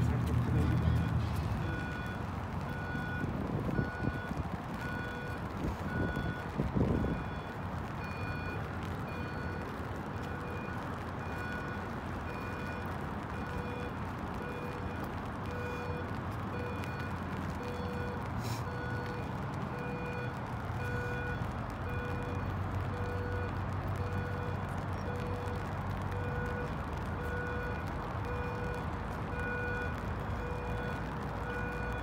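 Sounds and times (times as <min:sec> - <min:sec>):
city background: 0:00.0 - 0:32.0
rain hiss: 0:00.1 - 0:32.0.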